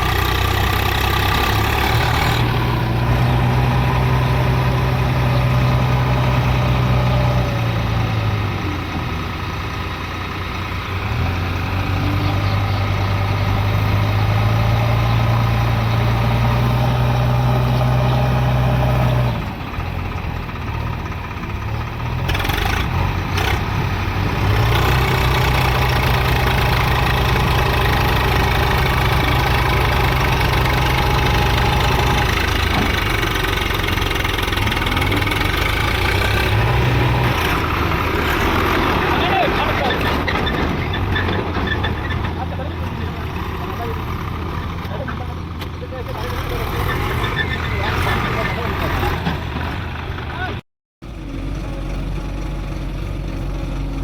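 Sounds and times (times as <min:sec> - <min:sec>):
diesel engines revving under load: 0:00.0 - 0:54.0.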